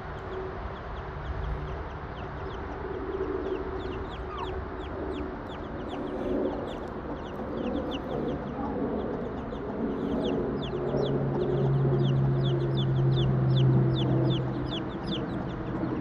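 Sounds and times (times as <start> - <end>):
steady low hum: 0.0 - 16.0
chickens clucking: 1.3 - 16.0.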